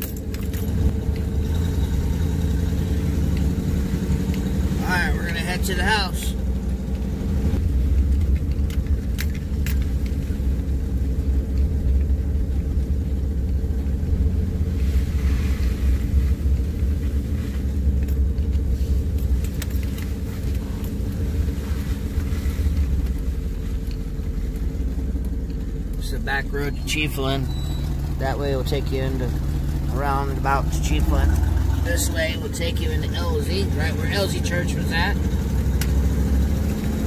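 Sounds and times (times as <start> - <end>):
truck engine and tyres rumbling: 0.0 - 37.0.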